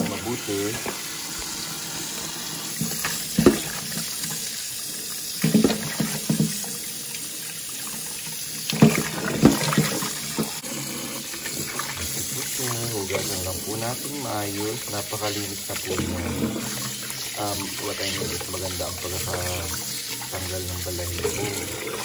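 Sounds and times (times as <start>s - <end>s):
tap water running into steel bowl: 0.0s - 22.0s.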